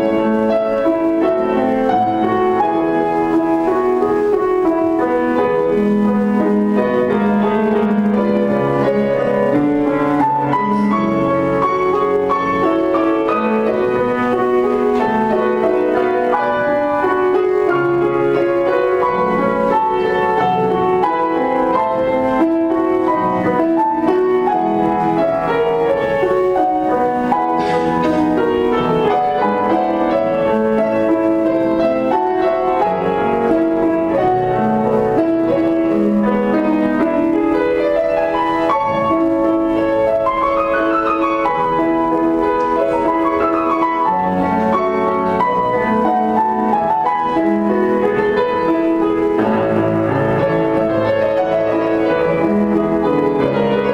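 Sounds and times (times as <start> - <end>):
classical piano piece: 0.0 - 53.9.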